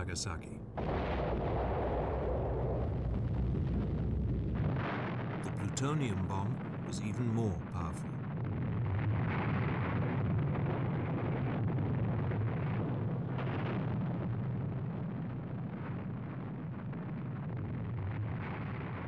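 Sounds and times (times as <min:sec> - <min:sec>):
low rumble of explosion: 0:00.0 - 0:19.0.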